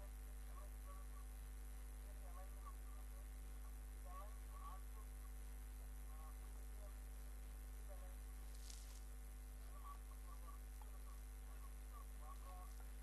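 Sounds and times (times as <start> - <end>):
electrical mains hum: 0.0 - 13.0
faint chirps: 0.0 - 13.0.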